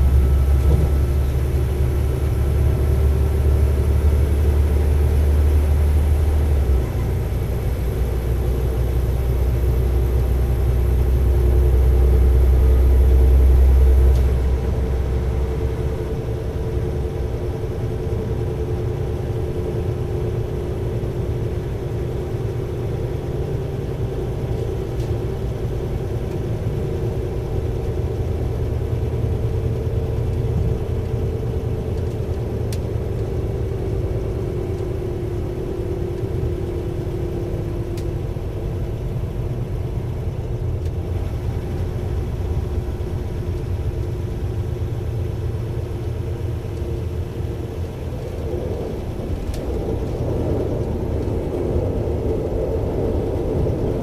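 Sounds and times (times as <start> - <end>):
deep rumble: 0.0 - 54.0
diesel engine droning: 0.0 - 54.0.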